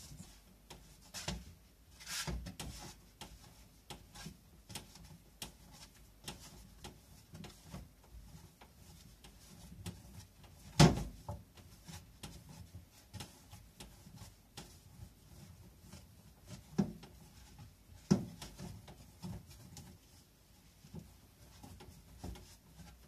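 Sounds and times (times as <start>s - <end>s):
hands rubbing bread dough: 0.0s - 23.0s.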